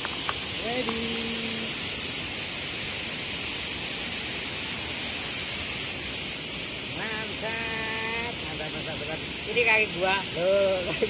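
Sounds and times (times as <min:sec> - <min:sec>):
water pouring over spillway: 0:00.0 - 0:11.0.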